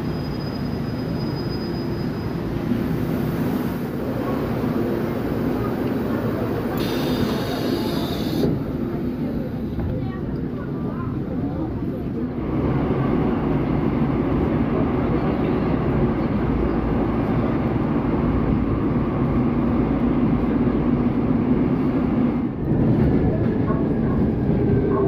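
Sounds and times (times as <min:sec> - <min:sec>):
subway train wheels rumbling: 0:00.0 - 0:25.0.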